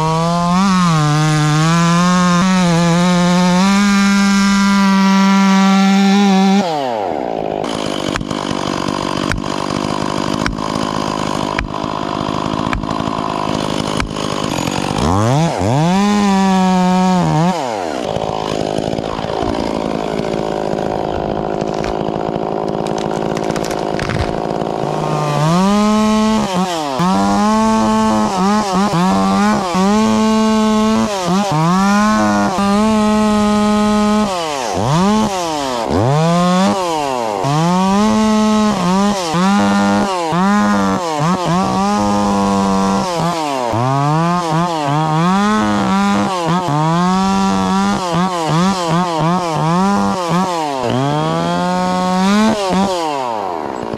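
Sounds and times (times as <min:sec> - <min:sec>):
chainsaw cutting: 0:00.0 - 0:53.9
chainsaw revving and idling: 0:00.0 - 0:53.9.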